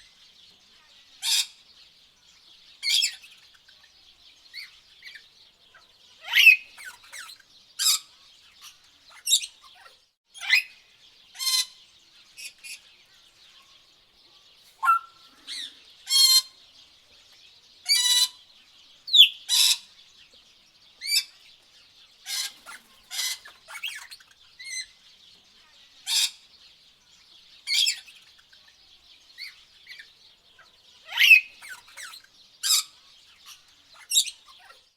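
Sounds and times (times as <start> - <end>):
birds chirping and whistling: 2.7 - 5.3, 6.2 - 13.8, 14.7 - 34.9.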